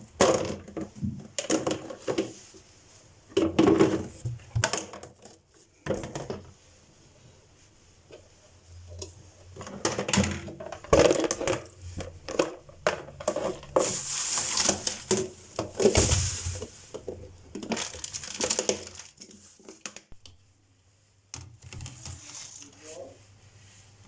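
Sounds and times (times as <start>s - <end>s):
rustling and crinkling greens: 0.8s - 20.1s, 21.9s - 24.0s.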